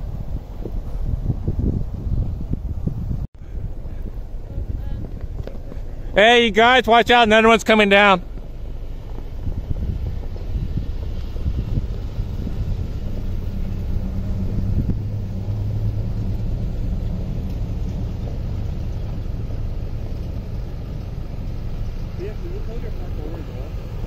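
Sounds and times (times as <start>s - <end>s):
constant low rumble: 0.0s - 24.0s
truck engine passing: 0.0s - 24.0s.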